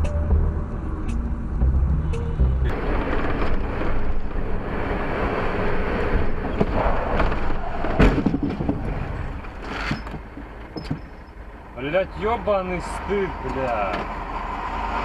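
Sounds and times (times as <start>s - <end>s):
road and wind noise from vehicle: 0.0s - 15.0s.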